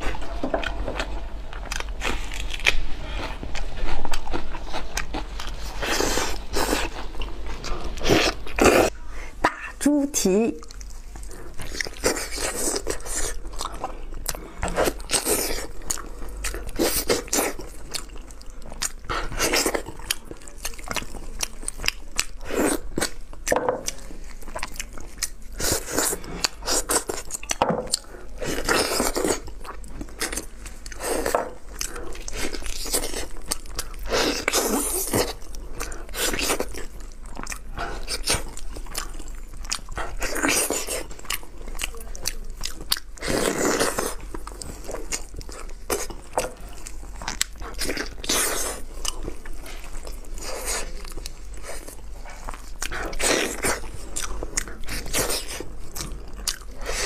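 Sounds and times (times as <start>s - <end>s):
close-up biting and chewing: 0.0s - 9.0s, 10.6s - 57.0s.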